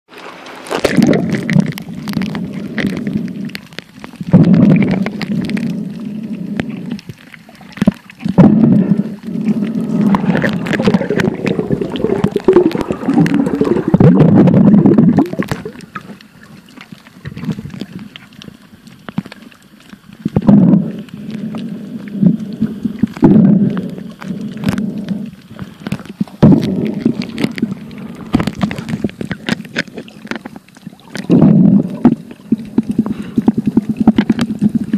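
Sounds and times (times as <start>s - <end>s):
underwater rumbling and sloshing: 0.1s - 34.9s.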